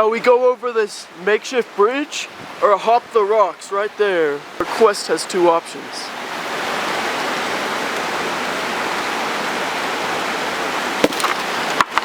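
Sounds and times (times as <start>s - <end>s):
river water rushing over rocks: 1.2s - 12.0s.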